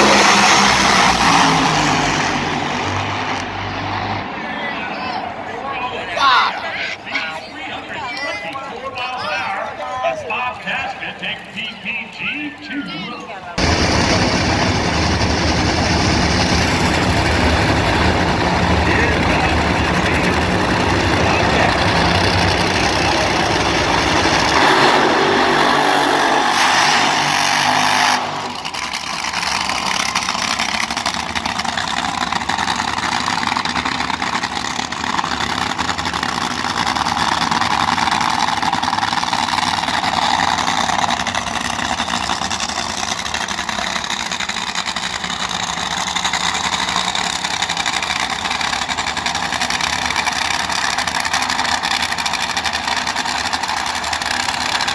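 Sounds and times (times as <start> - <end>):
drag racing engines roaring: 0.0 - 54.9.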